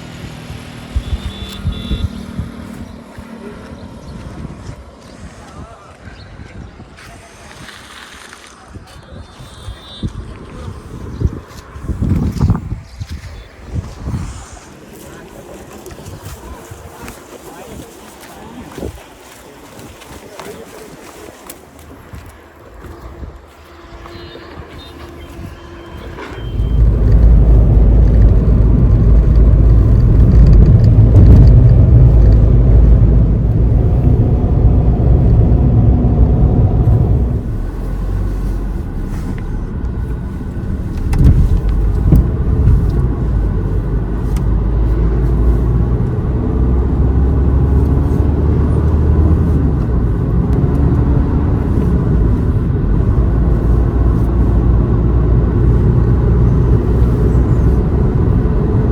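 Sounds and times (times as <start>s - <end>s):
car engine and road rumble: 0.0s - 9.2s, 10.1s - 58.9s.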